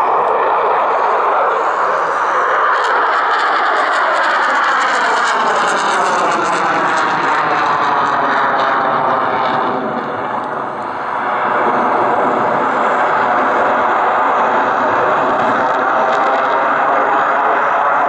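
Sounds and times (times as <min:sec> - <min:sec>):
fighter jet engines roaring overhead: 0:00.0 - 0:18.0.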